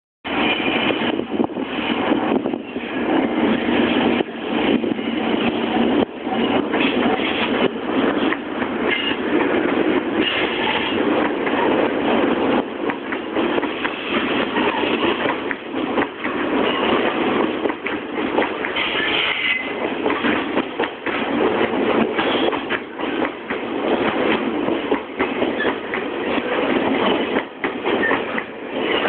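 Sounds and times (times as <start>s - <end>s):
freight train rumbling and clattering: 0.2s - 29.0s.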